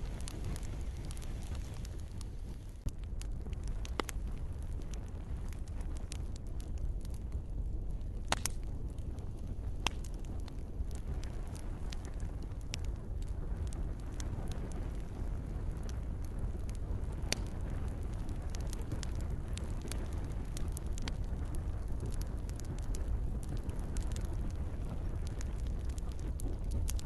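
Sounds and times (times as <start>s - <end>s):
campfire crackling and popping: 0.0s - 27.0s
steady low rumble: 0.0s - 27.0s.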